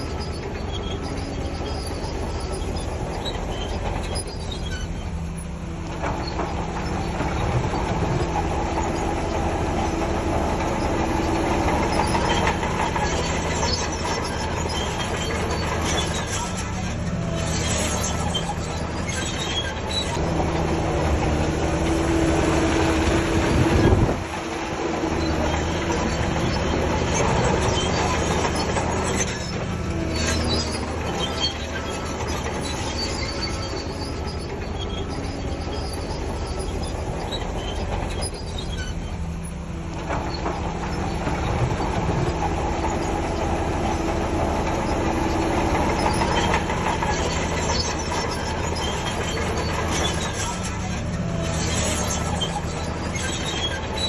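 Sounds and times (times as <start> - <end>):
bulldozer diesel engine under load: 0.0 - 54.0
steel tracks clanking and squealing: 0.0 - 54.0.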